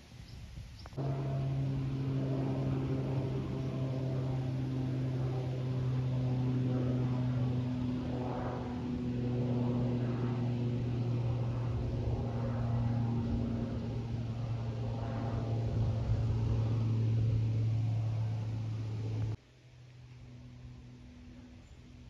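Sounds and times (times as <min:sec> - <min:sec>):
propeller aeroplane engine drone: 0:00.0 - 0:22.0.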